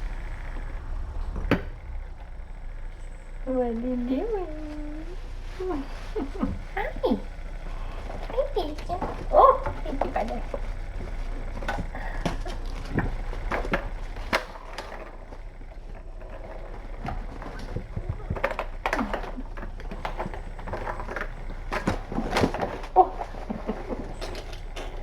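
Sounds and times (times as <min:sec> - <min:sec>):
kittens playing on hard floor: 0:00.0 - 0:25.0
steady low hum: 0:00.0 - 0:25.0.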